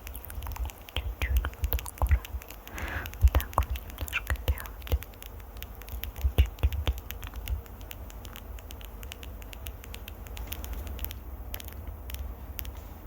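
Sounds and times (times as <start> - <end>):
scratching and tapping on microphone: 0.0 - 13.0.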